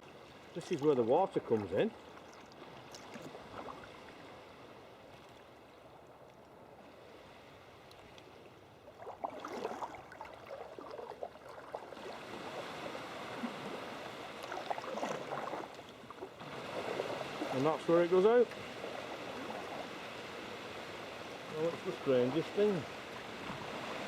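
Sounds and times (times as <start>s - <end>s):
seawater gurgling and splashing: 0.0s - 4.4s, 8.8s - 24.0s.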